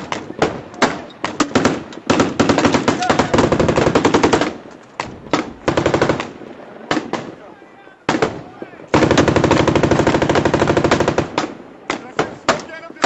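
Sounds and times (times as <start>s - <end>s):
automatic weapons fire: 0.0s - 7.4s, 8.1s - 12.7s.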